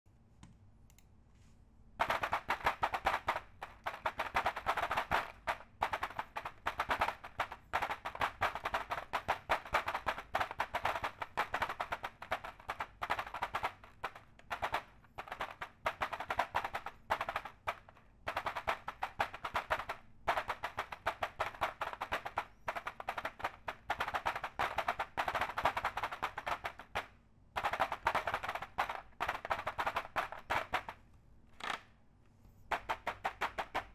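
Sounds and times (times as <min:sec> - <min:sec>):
mechanical keyboard typing: 0:02.0 - 0:31.0, 0:32.7 - 0:33.9.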